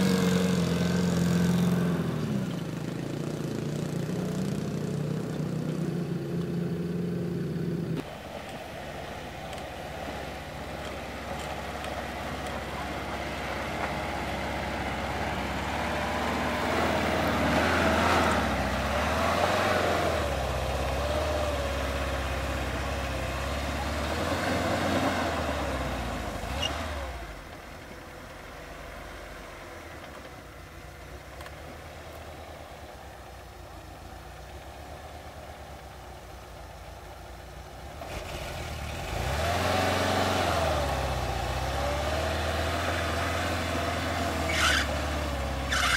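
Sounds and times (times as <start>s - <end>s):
vehicle engine under load: 0.0s - 45.9s.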